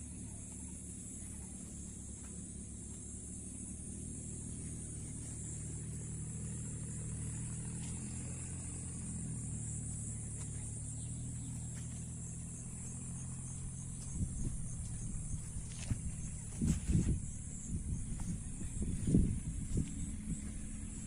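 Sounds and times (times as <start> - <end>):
insects chirring: 0.0 - 21.0
low engine hum: 0.0 - 21.0.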